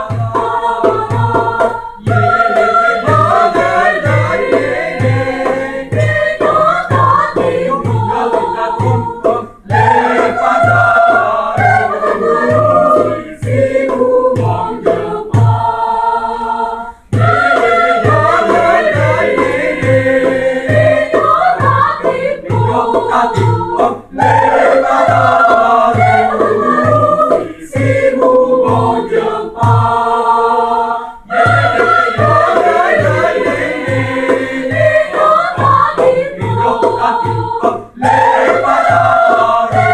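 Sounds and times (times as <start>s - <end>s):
choir singing in parts: 0.0s - 39.9s
steady low beat: 0.0s - 39.9s.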